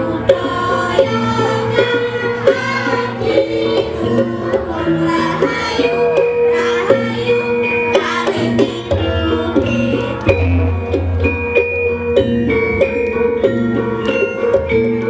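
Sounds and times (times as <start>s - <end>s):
metallophones ringing melody: 0.0s - 15.0s
voices singing gliding line: 0.0s - 15.0s.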